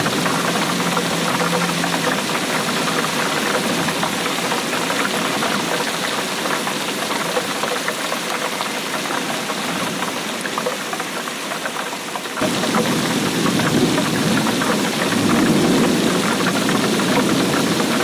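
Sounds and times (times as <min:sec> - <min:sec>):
steady rainfall: 0:00.0 - 0:18.0.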